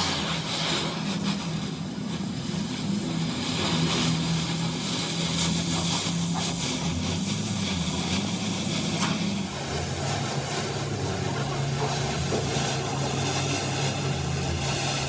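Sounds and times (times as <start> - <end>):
engine running with low drone: 0.0 - 15.0.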